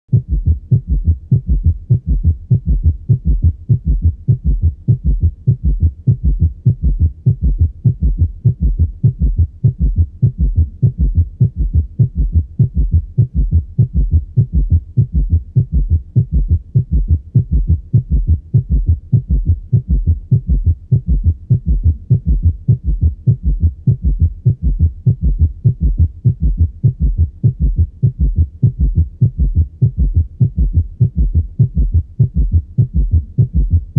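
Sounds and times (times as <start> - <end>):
heartbeat gallop rhythm: 0.1 - 33.9.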